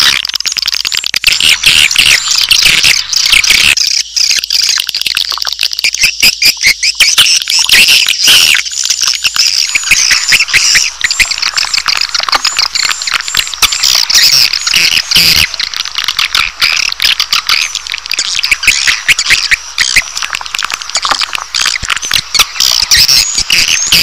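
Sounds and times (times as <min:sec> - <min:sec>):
chorus of bird chirps: 0:00.0 - 0:24.0.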